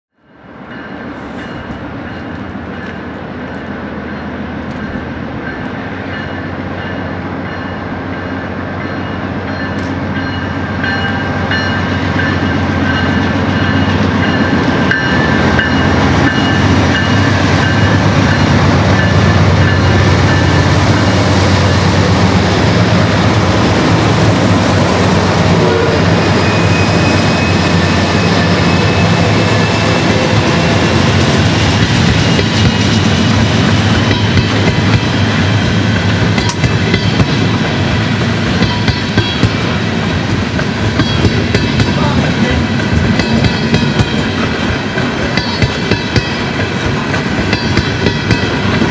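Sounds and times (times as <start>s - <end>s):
diesel locomotive engine rumble: 0.3s - 48.9s.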